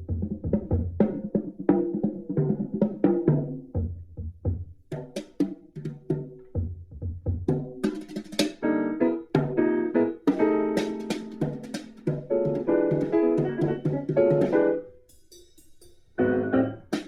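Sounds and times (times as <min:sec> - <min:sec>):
instrumental music with bass and percussion: 0:00.0 - 0:17.0.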